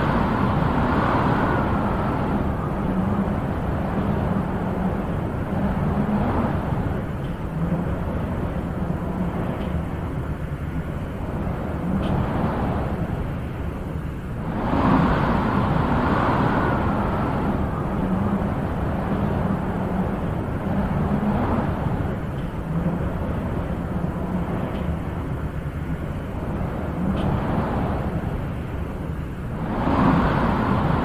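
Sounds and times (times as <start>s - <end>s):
wind blowing in gusts: 0.0s - 31.0s.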